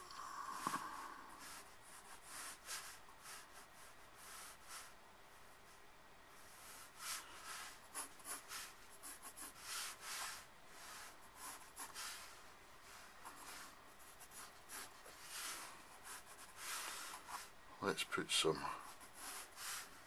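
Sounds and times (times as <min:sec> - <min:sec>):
pencil scratching on paper: 0:00.7 - 0:05.0, 0:06.4 - 0:17.6, 0:18.7 - 0:20.0.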